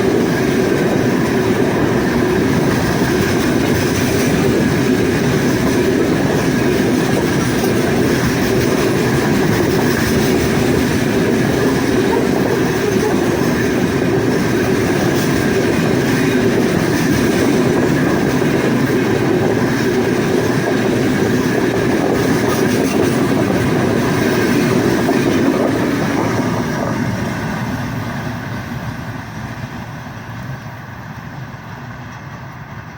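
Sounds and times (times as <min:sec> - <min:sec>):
freight train rumbling past: 0:00.0 - 0:32.9
wheels clicking over rail joints: 0:00.0 - 0:32.9.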